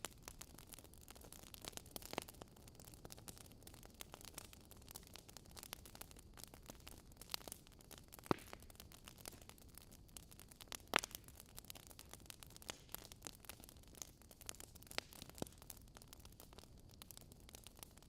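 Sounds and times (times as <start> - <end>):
wood logs crackling in fireplace: 0.0 - 18.0.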